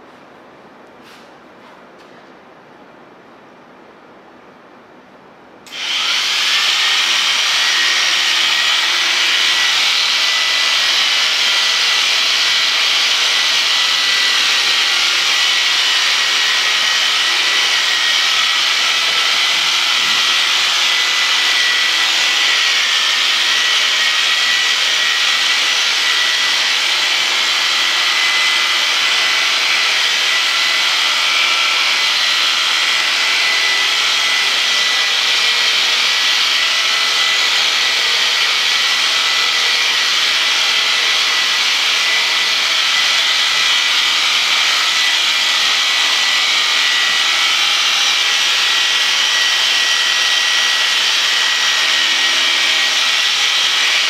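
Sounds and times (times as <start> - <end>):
electric sheep shears whining: 5.7 - 54.0.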